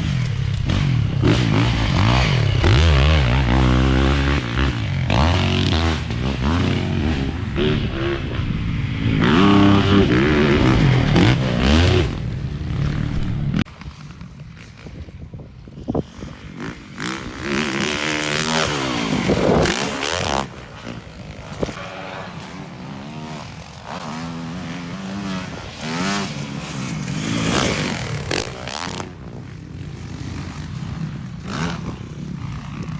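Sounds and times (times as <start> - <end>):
motocross bike engine revving: 0.0 - 15.2, 15.8 - 32.9.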